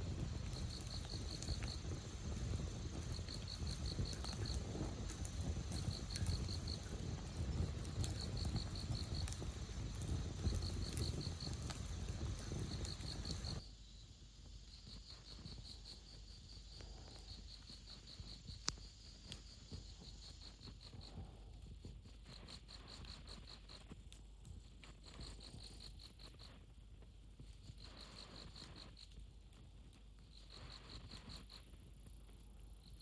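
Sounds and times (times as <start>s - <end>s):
insects chirping in trills: 0.0s - 31.8s.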